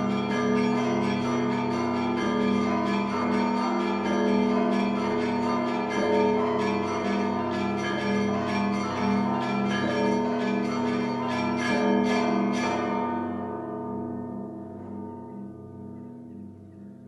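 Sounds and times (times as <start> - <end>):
church bells pealing: 0.0 - 16.9
deep bell hum: 0.0 - 17.0.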